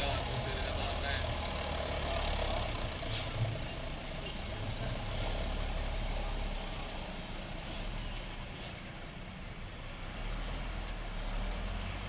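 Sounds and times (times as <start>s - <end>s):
heavy vehicle engine running: 0.0s - 9.7s.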